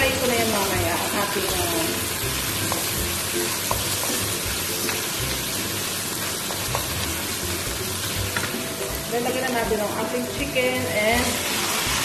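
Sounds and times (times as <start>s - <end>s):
onion and meat sizzling in oil: 0.0s - 12.0s.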